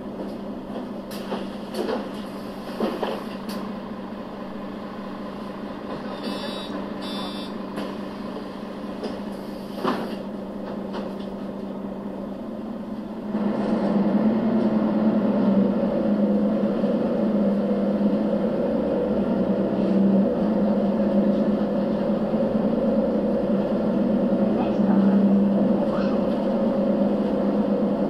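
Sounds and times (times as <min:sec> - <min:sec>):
bus diesel engine: 0:00.0 - 0:28.0.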